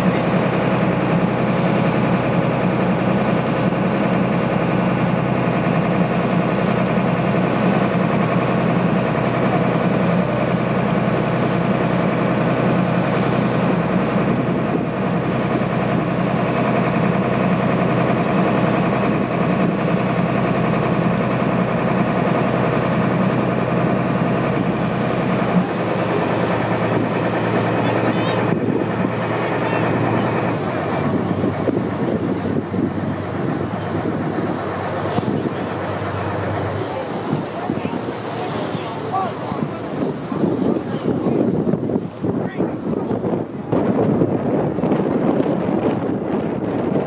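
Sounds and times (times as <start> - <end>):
motorboat engine running: 0.0 - 47.0.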